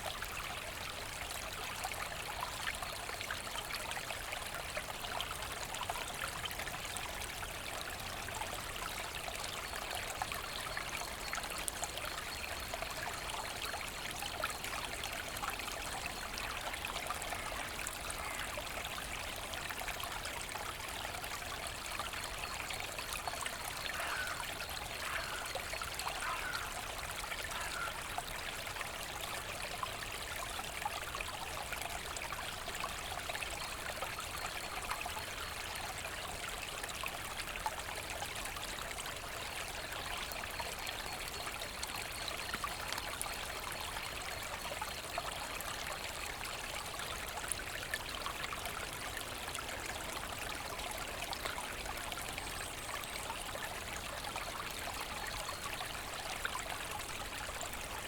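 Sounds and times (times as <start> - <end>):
brook babbling and trickling: 0.0 - 58.0.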